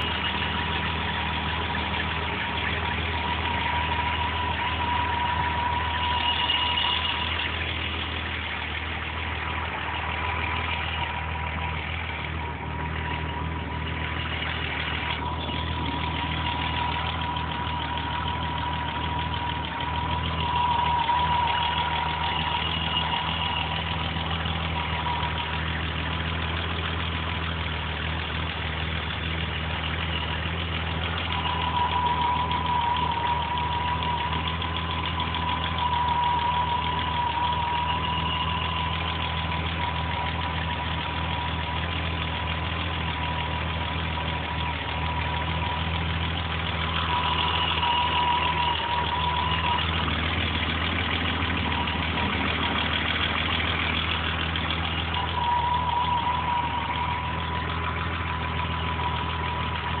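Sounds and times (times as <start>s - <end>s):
car engine idling rough: 0.0s - 60.0s
thin steady whine: 0.0s - 60.0s.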